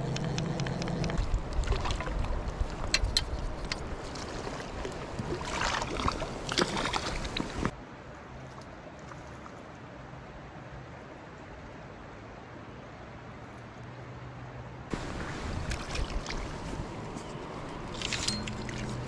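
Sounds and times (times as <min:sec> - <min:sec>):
river water splashing: 0:00.0 - 0:11.6, 0:14.9 - 0:19.0
stream rushing: 0:00.0 - 0:12.2, 0:14.9 - 0:19.0.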